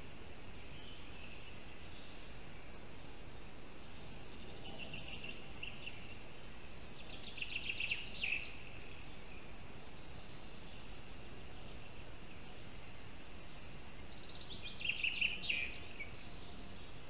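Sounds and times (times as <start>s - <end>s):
songbird singing: 0.0s - 17.0s
steady high hiss: 0.0s - 17.0s.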